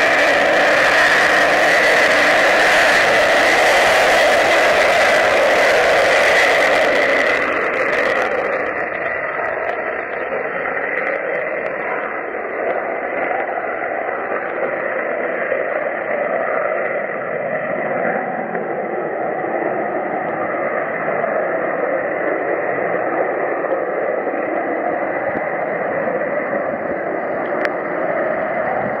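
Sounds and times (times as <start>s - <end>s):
jet engines in afterburner: 0.0s - 29.0s.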